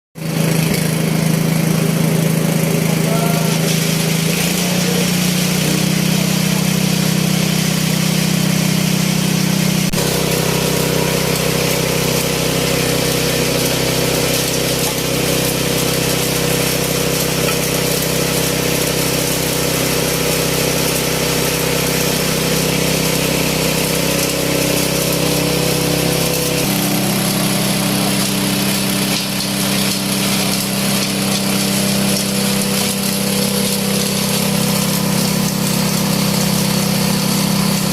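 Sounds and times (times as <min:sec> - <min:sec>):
chopper grinder droning: 0:00.2 - 0:37.9.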